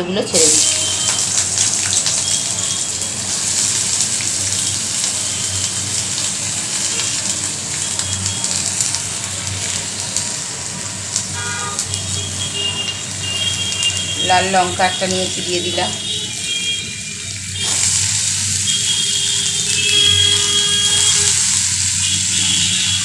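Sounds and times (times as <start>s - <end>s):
potatoes sizzling in oil: 0.1s - 23.0s.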